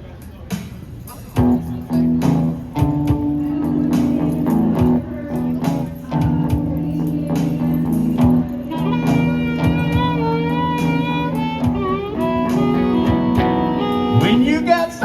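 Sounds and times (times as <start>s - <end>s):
steady drum beat: 0.4s - 15.0s
held guitar chords: 1.4s - 15.0s
lead guitar bent notes: 1.4s - 15.0s.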